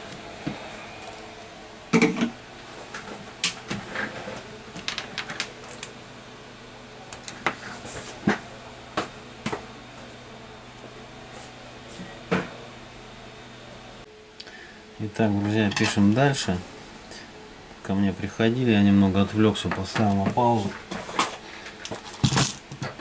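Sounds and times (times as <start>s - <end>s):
workshop equipment hum: 0.0s - 23.0s.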